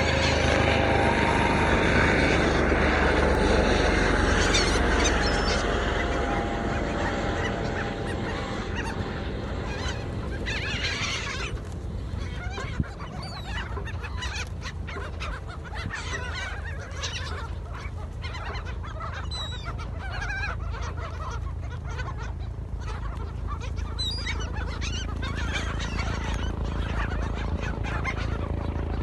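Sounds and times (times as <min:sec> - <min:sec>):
gulls calling: 0:00.0 - 0:29.0
steady low rumble: 0:00.0 - 0:29.0.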